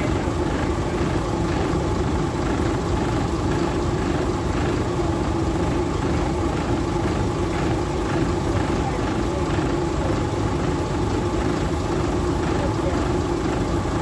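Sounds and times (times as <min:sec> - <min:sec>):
diesel train engine idling: 0:00.0 - 0:14.0.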